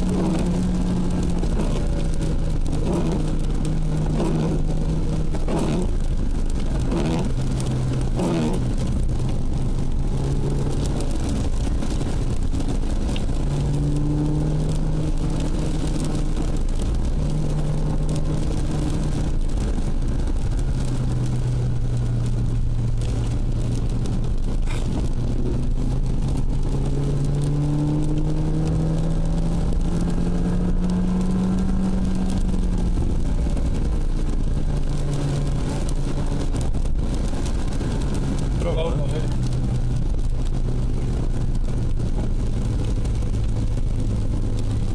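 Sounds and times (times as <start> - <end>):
car engine droning: 0.0 - 44.9
tyres hissing on wet road: 0.0 - 44.9.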